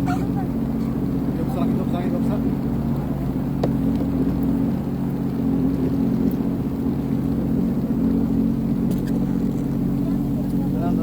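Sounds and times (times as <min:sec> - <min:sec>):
watercraft engine running: 0:00.0 - 0:11.0.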